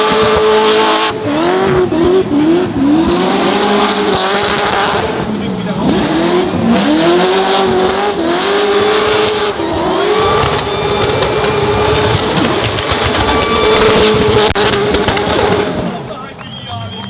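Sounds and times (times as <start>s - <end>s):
car engine at high revs: 0.0s - 16.2s.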